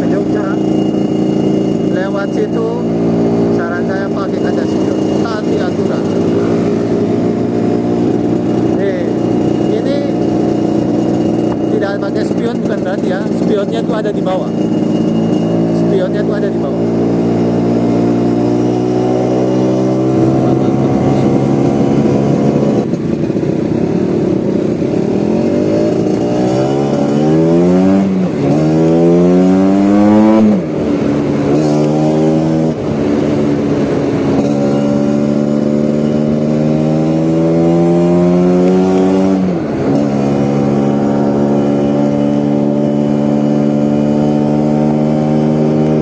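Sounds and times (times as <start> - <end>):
scooter engine revving: 0.0 - 46.0.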